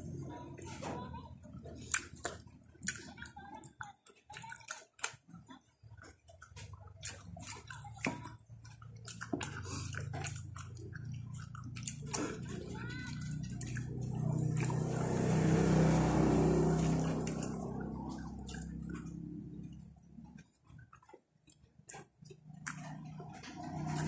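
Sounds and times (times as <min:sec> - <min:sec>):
chewing with wet mouth smacks: 0:01.4 - 0:24.0.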